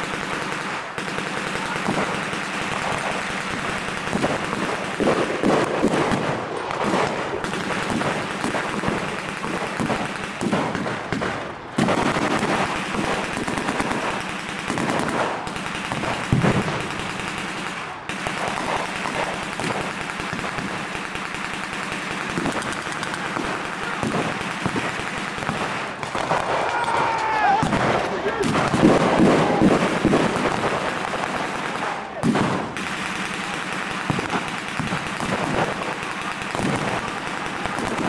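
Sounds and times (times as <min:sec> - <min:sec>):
machine-gun bursts: 0:00.0 - 0:26.9, 0:27.6 - 0:38.0
rifle shots: 0:00.0 - 0:38.0.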